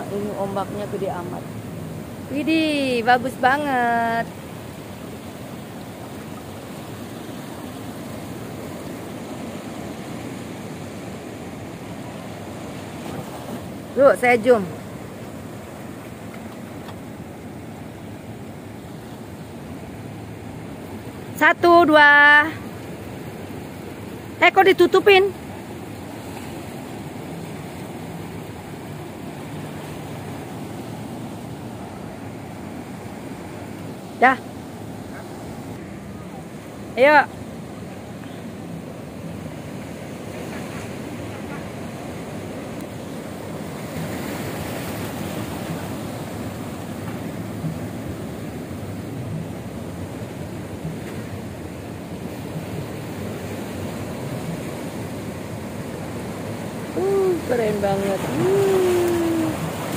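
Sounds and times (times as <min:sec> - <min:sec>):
waves surging onto rocks: 0:00.0 - 0:59.9.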